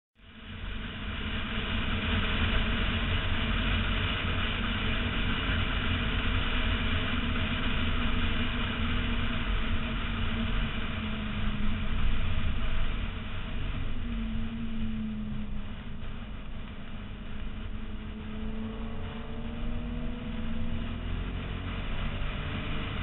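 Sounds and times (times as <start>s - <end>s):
car engine running at speed: 0.2s - 23.0s
tyres hissing on wet road: 0.2s - 23.0s.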